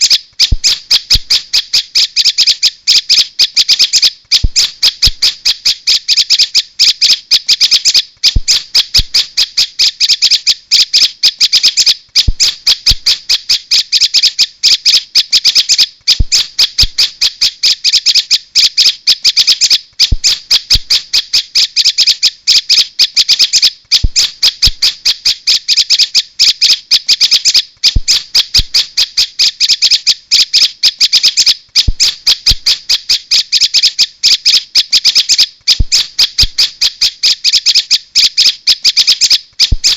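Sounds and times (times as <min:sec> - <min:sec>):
rapid sharp bird chirps: 0:00.0 - 0:39.9.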